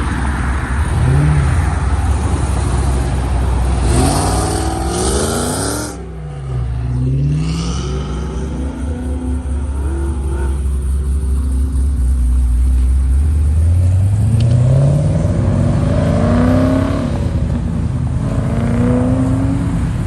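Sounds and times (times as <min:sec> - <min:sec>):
car engine accelerating: 0:00.6 - 0:20.0.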